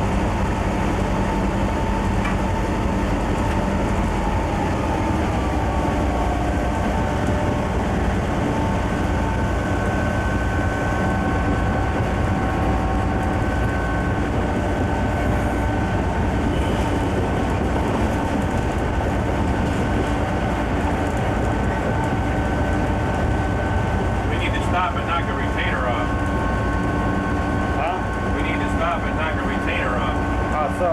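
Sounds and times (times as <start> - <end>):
freight train diesel drone: 0.0 - 30.9
steady whining tones: 0.0 - 30.9.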